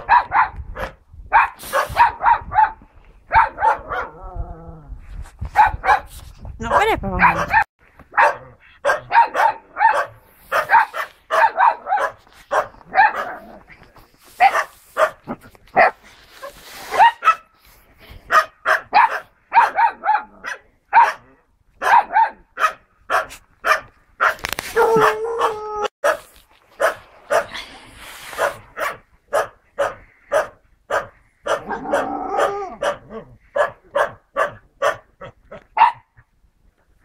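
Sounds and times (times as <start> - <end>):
dogs barking: 0.0 - 4.2, 5.6 - 6.1, 6.7 - 13.5, 14.4 - 16.0, 18.3 - 27.6, 28.4 - 36.1.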